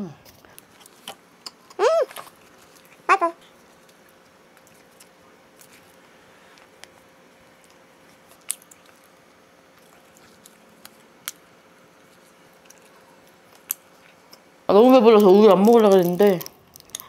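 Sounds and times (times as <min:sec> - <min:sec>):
chewing bun: 0:00.5 - 0:17.0.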